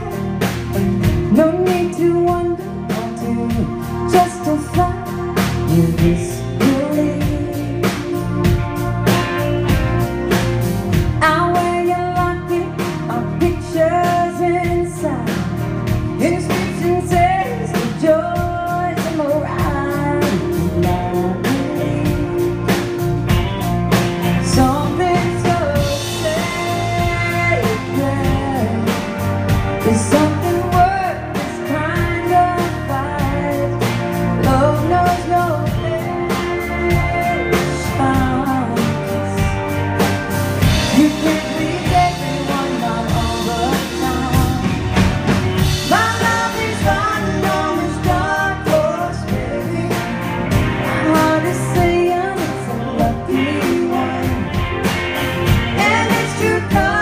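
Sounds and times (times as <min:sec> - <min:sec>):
woman singing: 0:00.0 - 0:09.5, 0:10.9 - 0:23.6, 0:24.2 - 0:57.0
drum kit beat: 0:00.0 - 0:57.0
electric guitar: 0:00.0 - 0:57.0.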